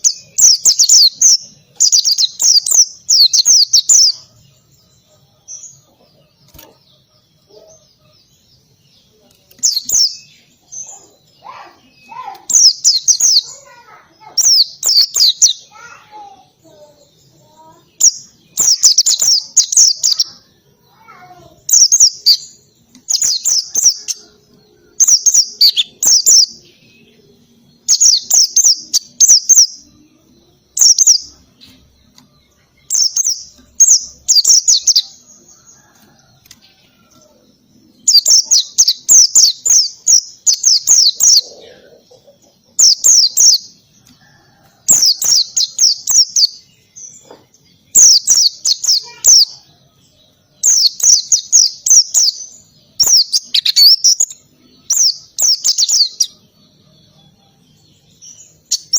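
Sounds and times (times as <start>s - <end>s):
bird high rapid chirping: 0.0s - 58.9s.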